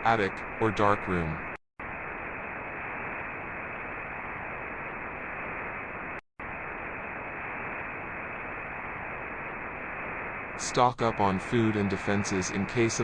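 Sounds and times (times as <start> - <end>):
muffled static hiss: 0.0 - 13.0.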